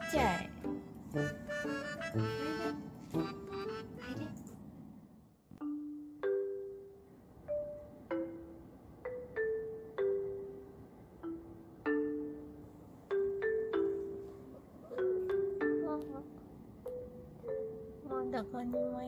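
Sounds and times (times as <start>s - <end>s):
mallet percussion melody: 0.0s - 4.0s, 5.6s - 19.0s.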